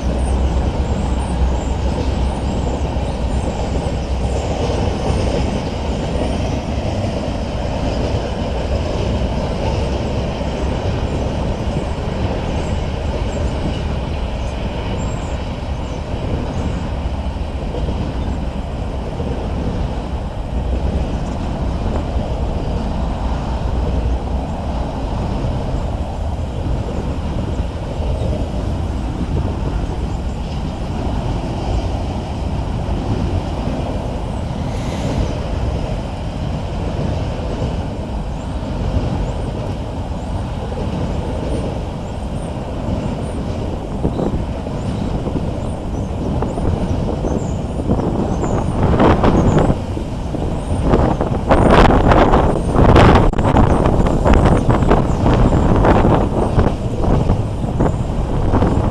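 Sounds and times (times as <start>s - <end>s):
train wheels on rails: 0.0s - 58.9s.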